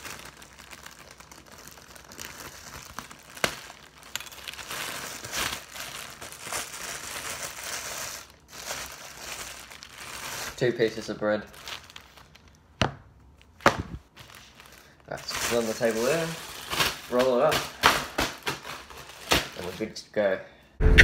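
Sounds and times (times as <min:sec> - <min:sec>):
plastic bag crinkling: 0:00.0 - 0:12.7, 0:13.3 - 0:20.0.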